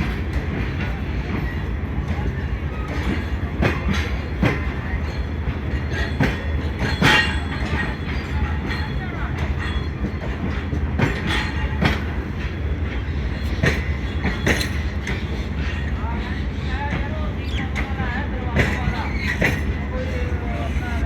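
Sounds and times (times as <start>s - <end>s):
train wheels clacking over rail joints: 0.0s - 21.0s.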